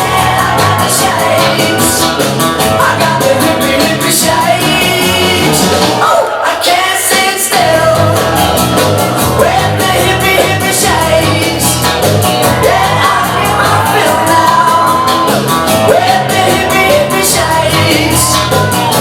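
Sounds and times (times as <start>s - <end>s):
bass line: 0.0s - 19.0s
drums: 0.0s - 19.0s
person singing: 0.0s - 19.0s.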